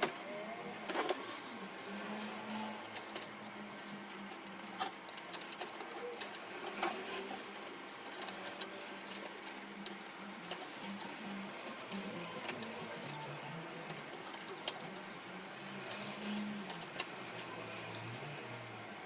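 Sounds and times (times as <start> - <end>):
laser printer motor hum: 0.0 - 19.0.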